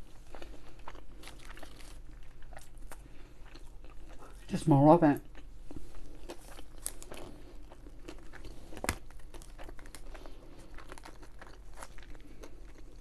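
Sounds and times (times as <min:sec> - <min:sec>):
close chewing of food: 0:00.0 - 0:13.0.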